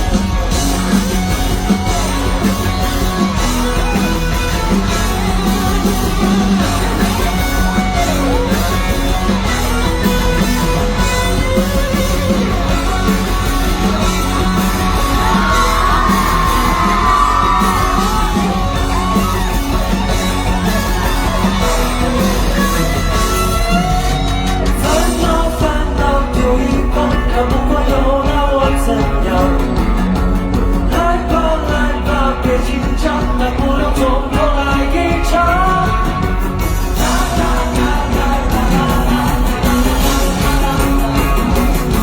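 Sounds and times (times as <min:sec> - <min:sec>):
crowd yelling and whooping: 0:00.0 - 0:42.0
live pop-rock music: 0:00.0 - 0:42.0.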